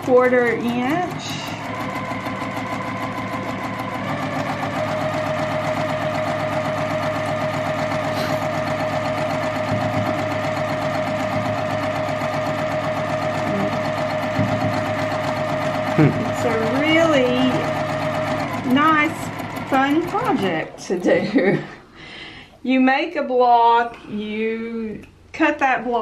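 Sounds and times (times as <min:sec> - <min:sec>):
sewing machine stitching: 0:00.0 - 0:21.7.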